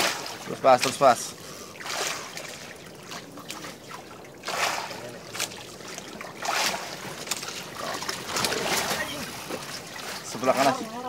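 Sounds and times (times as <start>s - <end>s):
water lapping against boat: 0.0s - 11.0s.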